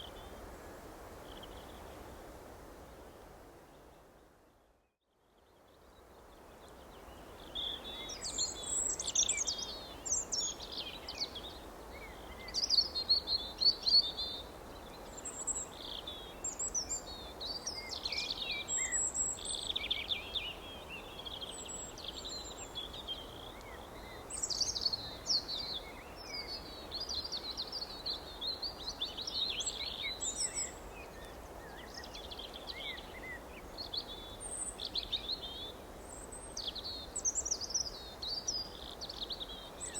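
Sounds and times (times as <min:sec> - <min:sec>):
steady background hiss: 0:05.4 - 0:39.9.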